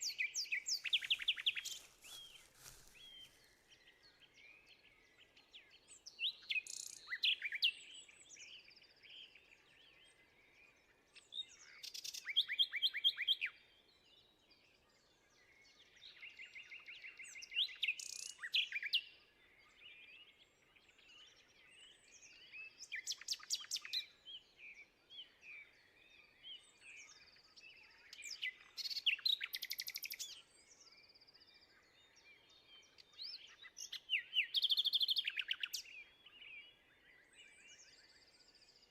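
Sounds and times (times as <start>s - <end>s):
faint bird chirps: 0.0s - 38.9s
songbird singing with trills: 0.0s - 38.9s.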